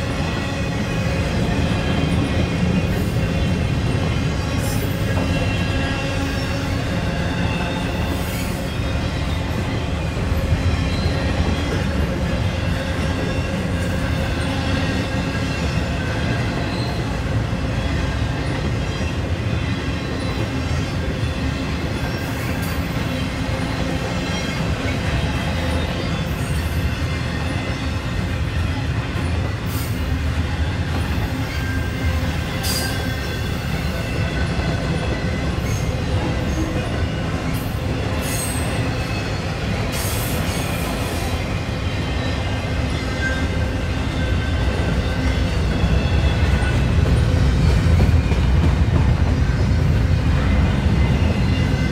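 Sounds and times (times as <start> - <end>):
freight train rumble: 0.0 - 51.9
train wheels squealing: 0.0 - 51.9.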